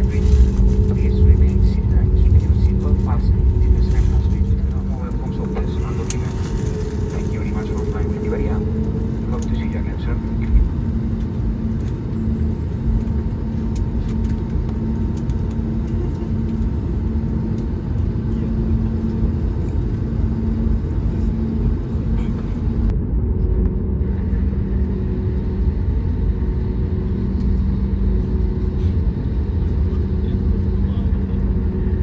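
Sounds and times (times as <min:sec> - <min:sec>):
airplane cabin rumble: 0:00.0 - 0:32.0
jet engine hum: 0:00.0 - 0:32.0.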